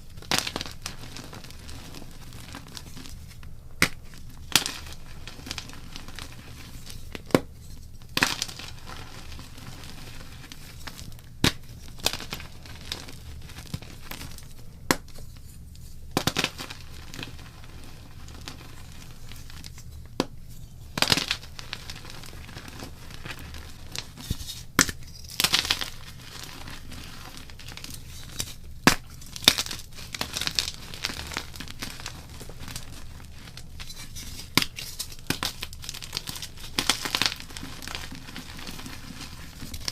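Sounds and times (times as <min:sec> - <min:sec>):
chalk being crushed by hand: 0:00.0 - 0:39.9.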